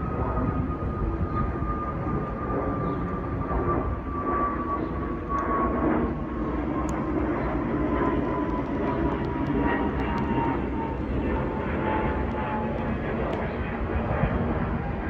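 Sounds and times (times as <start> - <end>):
jet airliner flying overhead: 0.0 - 15.0.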